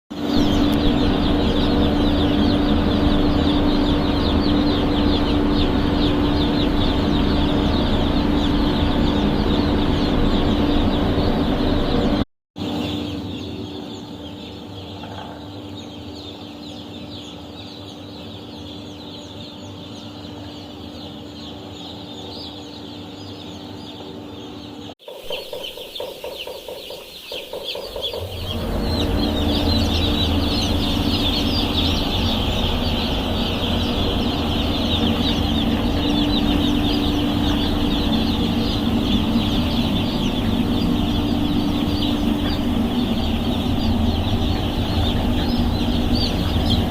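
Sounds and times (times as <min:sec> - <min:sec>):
steady hum: 0:00.1 - 0:15.0, 0:15.8 - 0:46.9
chicks peeping: 0:00.1 - 0:46.9.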